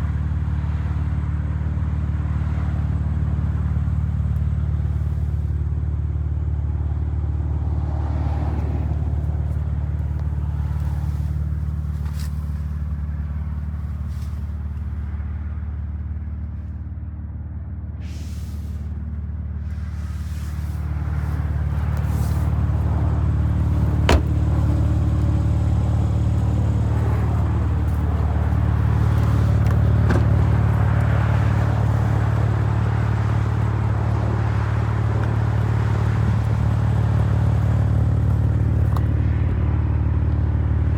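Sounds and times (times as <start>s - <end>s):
car engine humming: 0.0s - 16.6s, 18.0s - 40.9s.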